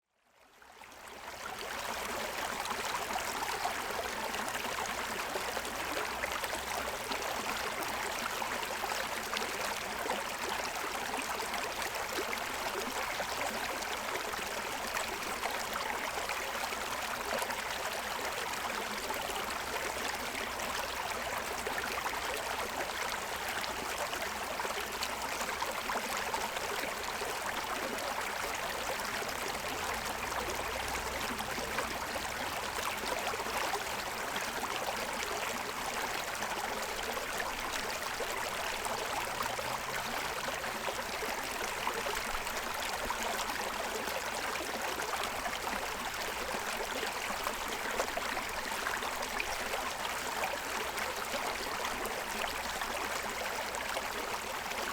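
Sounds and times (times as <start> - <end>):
stream water running over stones: 1.6 - 54.9.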